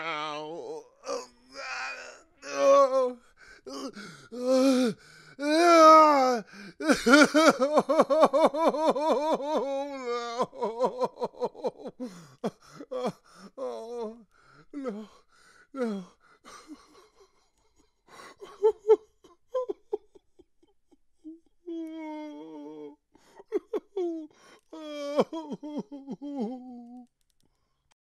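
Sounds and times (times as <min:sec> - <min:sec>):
person making wordless cries: 0:00.0 - 0:14.2, 0:14.8 - 0:15.2, 0:15.8 - 0:17.3, 0:18.2 - 0:27.1.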